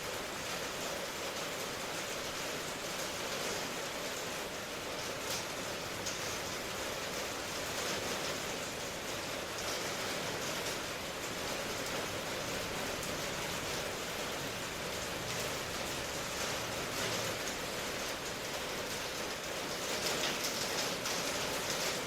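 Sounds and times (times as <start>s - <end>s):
raindrops pattering: 0.0s - 22.0s
steady rain: 0.0s - 22.0s.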